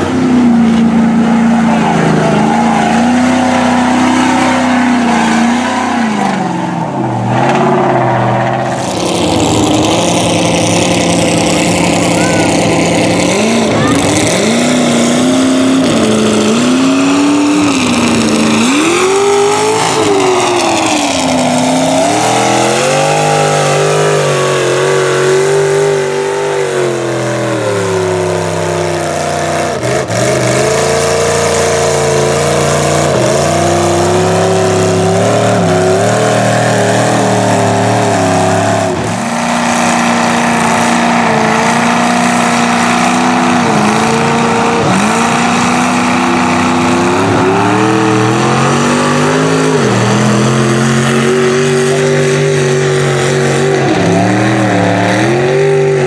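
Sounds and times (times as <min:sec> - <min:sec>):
truck churning through mud: 0:00.0 - 0:56.0
truck engine revving: 0:00.0 - 0:56.0.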